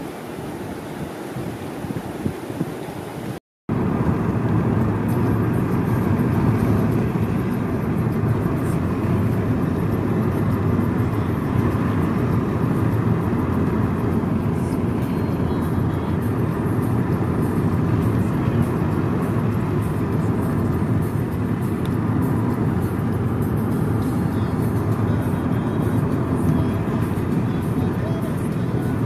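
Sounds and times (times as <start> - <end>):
car cabin road and engine noise: 0.0 - 29.0.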